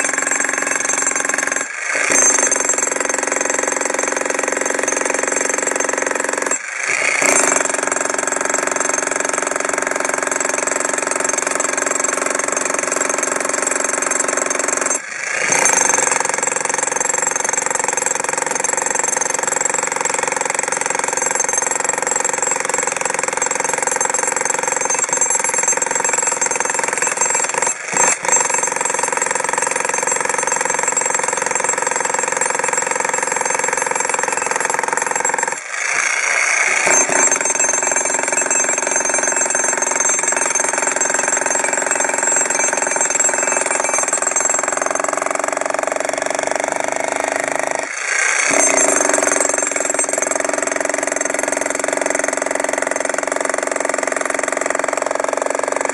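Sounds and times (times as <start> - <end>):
demolition hammer pounding concrete: 0.0 - 55.9.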